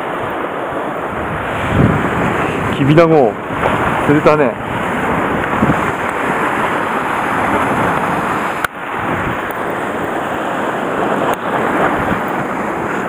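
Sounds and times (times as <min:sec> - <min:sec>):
surf washing on rocks: 0:00.0 - 0:13.0
wind buffeting microphone: 0:00.0 - 0:13.0.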